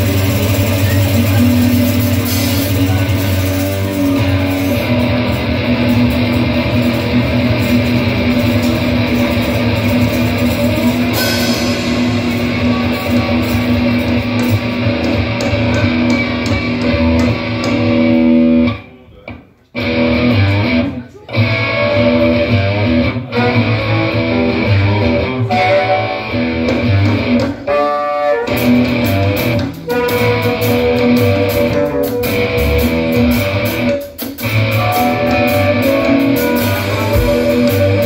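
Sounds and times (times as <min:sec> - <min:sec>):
bass guitar: 0:00.0 - 0:38.0
drums: 0:00.0 - 0:38.0
electric guitars: 0:00.0 - 0:38.0.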